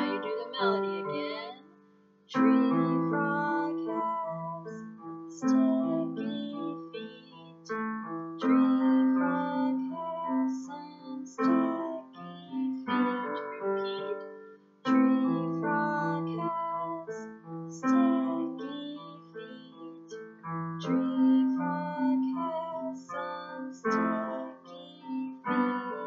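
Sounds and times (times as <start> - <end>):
digital piano chords and notes: 0.0 - 26.0.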